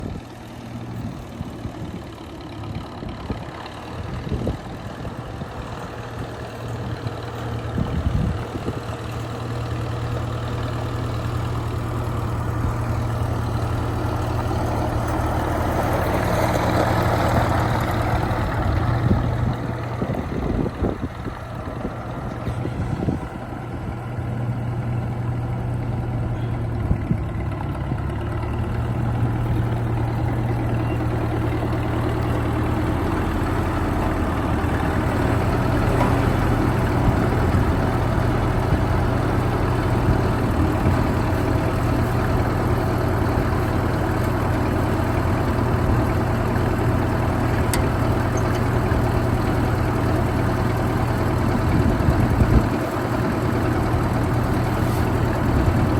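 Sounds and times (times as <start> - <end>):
tractor engine idling: 0.0 - 55.9.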